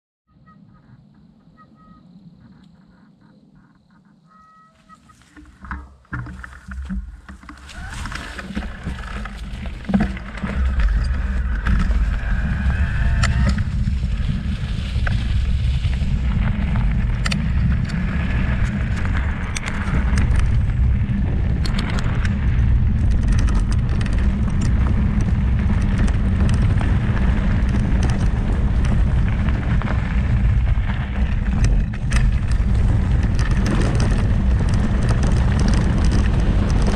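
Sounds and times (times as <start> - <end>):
stones and bike rattling: 4.8 - 36.9
tyres rolling over gravel: 5.1 - 36.9
wind rushing over microphone: 5.3 - 36.9.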